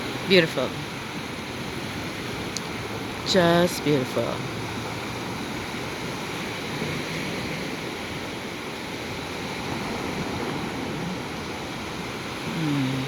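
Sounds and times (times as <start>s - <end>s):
surf washing on beach: 0.0s - 13.0s.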